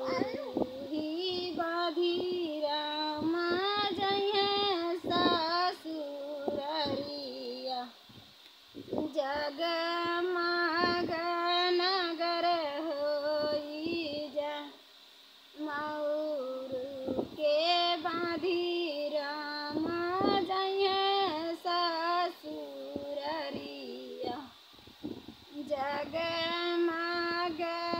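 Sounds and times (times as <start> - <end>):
woman singing unaccompanied: 0.0 - 8.1, 8.8 - 14.9, 15.5 - 24.6, 25.4 - 27.9.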